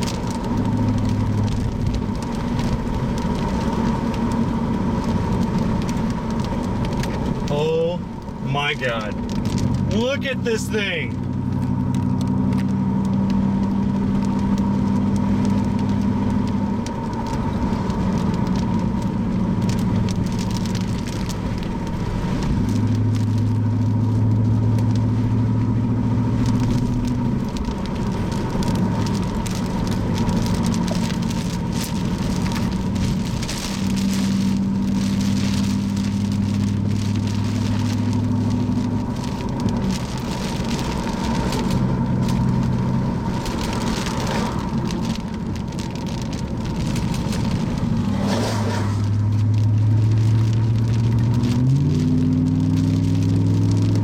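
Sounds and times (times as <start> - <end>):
car engine hum: 0.0 - 54.0
rain striking a car: 0.0 - 54.0.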